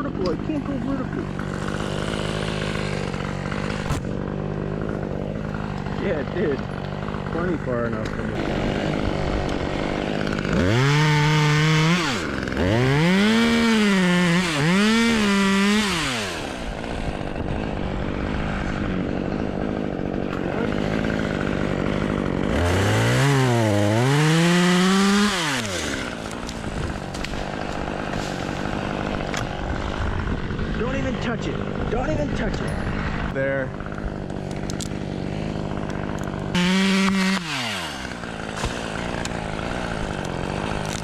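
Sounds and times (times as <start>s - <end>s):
chainsaw revving and idling: 0.0s - 41.0s.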